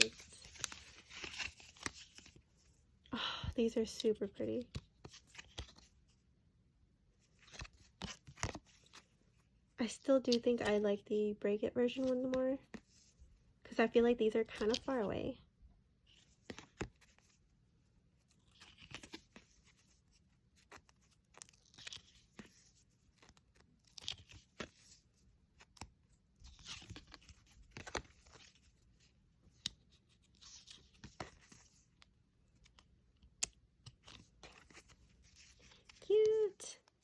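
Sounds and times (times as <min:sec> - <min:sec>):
paper cards rustling and clicking: 0:00.0 - 0:02.8, 0:03.6 - 0:06.2, 0:07.2 - 0:10.8, 0:11.9 - 0:13.2, 0:14.4 - 0:15.1, 0:16.1 - 0:17.4, 0:18.2 - 0:37.0.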